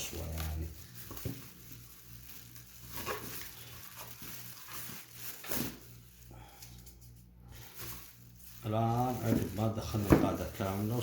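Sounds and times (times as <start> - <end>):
rustling swishes of handled parts: 0.0 - 11.0.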